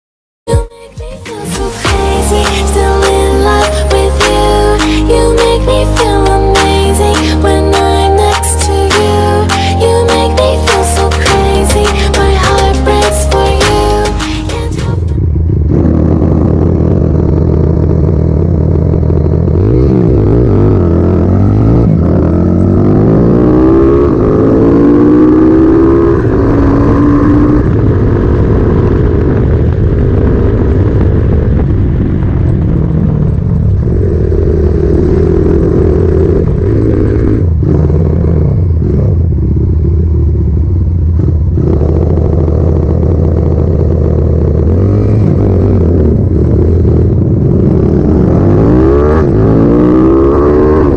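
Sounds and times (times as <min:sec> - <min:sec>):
motorcycle engine revving: 0:01.8 - 0:50.9.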